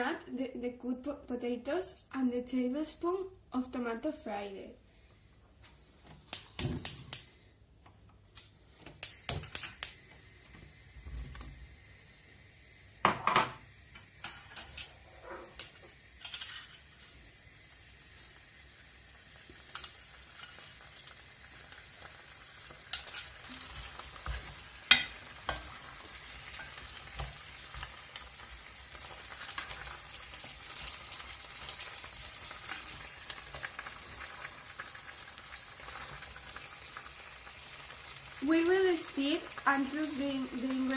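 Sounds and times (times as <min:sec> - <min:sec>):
soft frying sizzle: 0:05.6 - 0:40.9.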